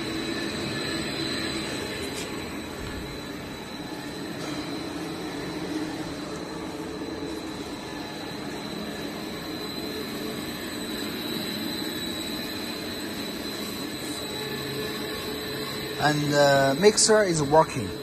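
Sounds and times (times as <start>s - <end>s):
mixer machine hum and whine: 0.0s - 18.0s.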